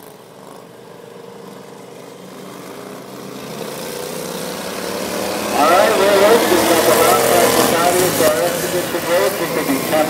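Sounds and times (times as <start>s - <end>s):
racing lawn mower engines: 0.0s - 10.0s.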